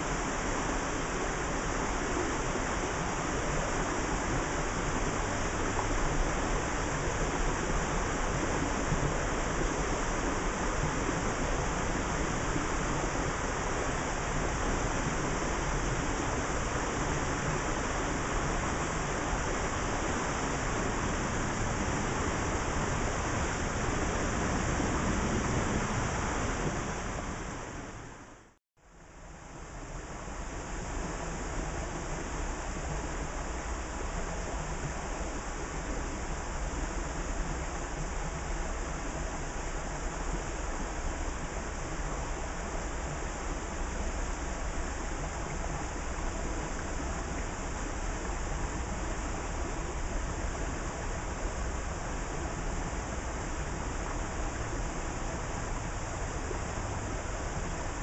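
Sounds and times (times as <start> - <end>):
creek water flowing over stones: 0.0 - 27.8, 29.5 - 58.0.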